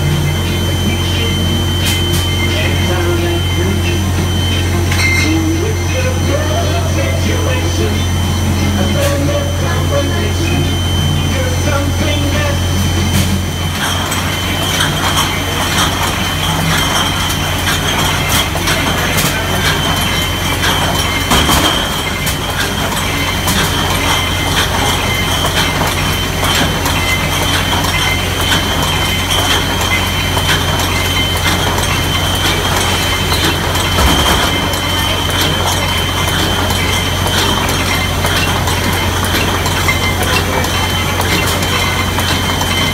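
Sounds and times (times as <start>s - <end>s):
machine hum with high whine: 0.0s - 42.9s
glass bottles clinking: 1.8s - 42.9s.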